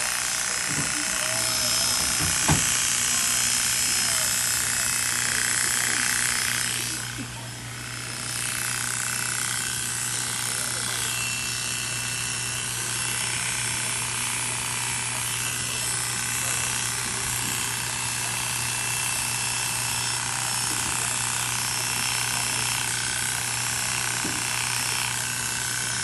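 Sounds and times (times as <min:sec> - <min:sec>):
electric clippers buzzing: 0:00.0 - 0:26.0.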